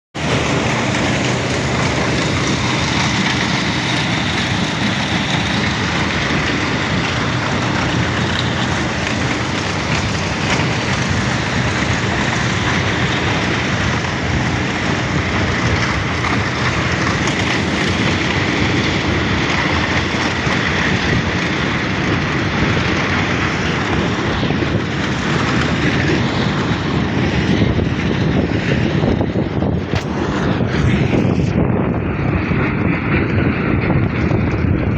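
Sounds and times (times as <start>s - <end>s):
large engine droning: 0.1s - 34.9s.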